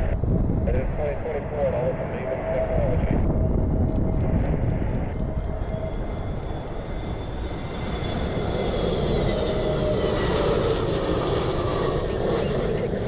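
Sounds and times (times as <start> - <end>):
jet engines passing: 0.0 - 13.0
low wind rumble: 0.0 - 13.0.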